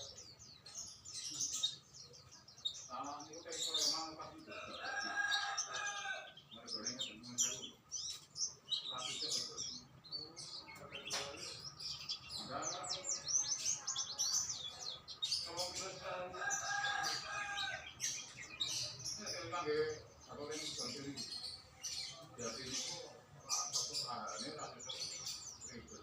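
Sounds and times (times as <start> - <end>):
small songbirds chirping: 0.0 - 26.0.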